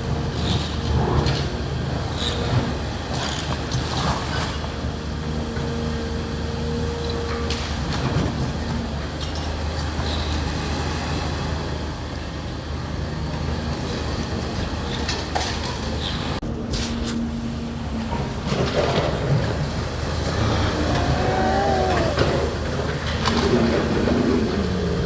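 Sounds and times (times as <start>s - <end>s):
excavator engine running: 0.1s - 25.0s.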